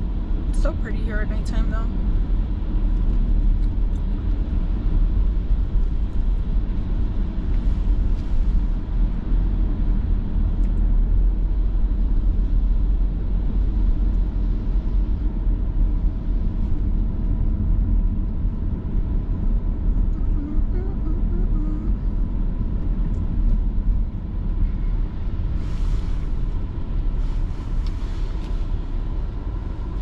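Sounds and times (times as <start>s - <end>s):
car road and engine rumble: 0.0s - 30.0s.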